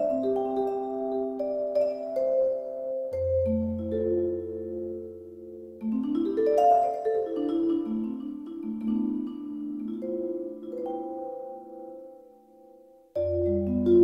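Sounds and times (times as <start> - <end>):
vibraphone mallet notes: 0.0 - 14.0.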